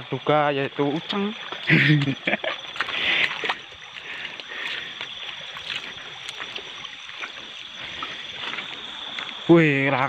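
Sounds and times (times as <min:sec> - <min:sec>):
river water running over rocks: 0:00.6 - 0:10.0
splashes of wading: 0:00.7 - 0:10.0.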